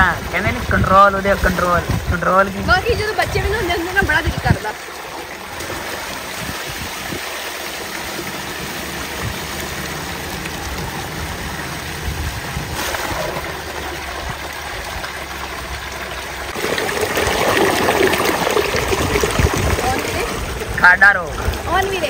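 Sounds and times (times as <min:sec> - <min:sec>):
water gushing from pipe: 0:00.0 - 0:22.0
water splashing: 0:00.0 - 0:22.0.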